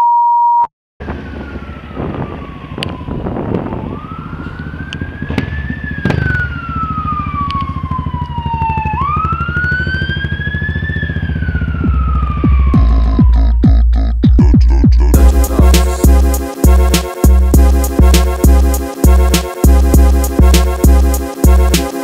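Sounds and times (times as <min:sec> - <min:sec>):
wailing siren: 0:01.0 - 0:13.6, 0:15.2 - 0:22.0
engine running low: 0:01.0 - 0:14.1, 0:15.0 - 0:22.0.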